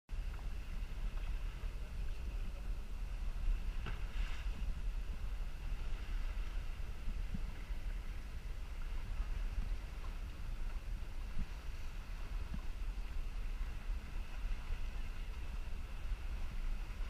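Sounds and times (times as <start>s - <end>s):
motorboat rumbling: 0.1s - 17.0s
wind buffeting microphone: 0.1s - 17.0s.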